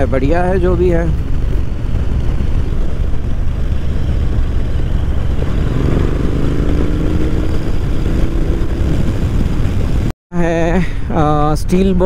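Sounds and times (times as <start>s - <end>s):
motorcycle engine running: 0.0s - 10.1s
wind rumble on microphone: 0.0s - 10.1s.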